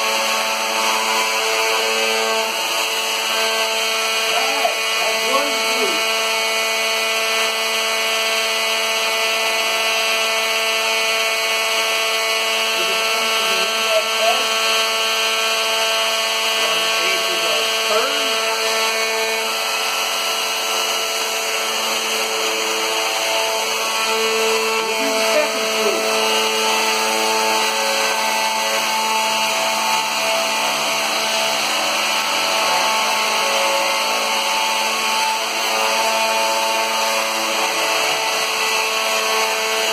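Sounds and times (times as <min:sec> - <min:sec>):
router whining cutting wood: 0:00.0 - 0:39.9.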